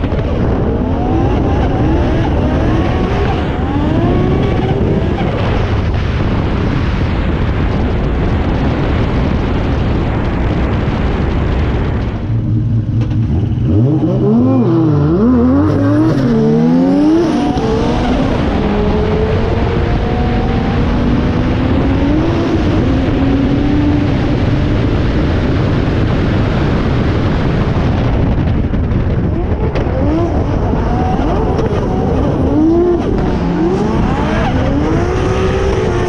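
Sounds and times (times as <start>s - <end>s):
car engine revving: 0.0s - 6.2s, 11.6s - 26.5s, 27.2s - 36.0s
constant rushing noise: 0.0s - 36.0s.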